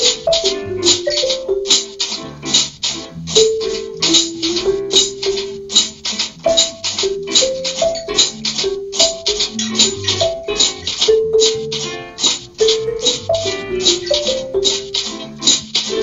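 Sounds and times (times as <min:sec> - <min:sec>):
marimba melody: 0:00.0 - 0:02.0, 0:03.2 - 0:05.8, 0:06.4 - 0:15.1
acoustic guitar: 0:00.0 - 0:16.0
cymbal keeping time: 0:00.0 - 0:16.0
walking electric bass: 0:00.0 - 0:16.0.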